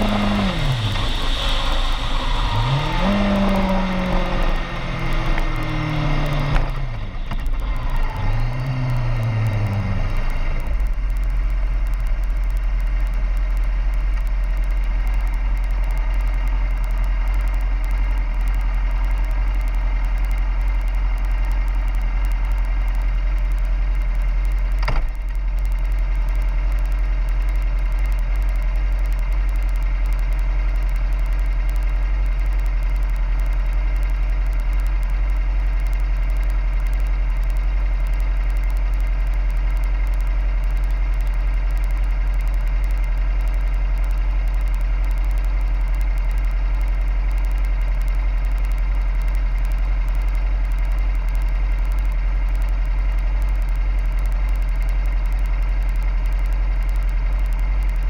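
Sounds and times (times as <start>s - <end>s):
sharp click: 0.0s - 58.0s
vehicle engine idling: 0.0s - 58.0s.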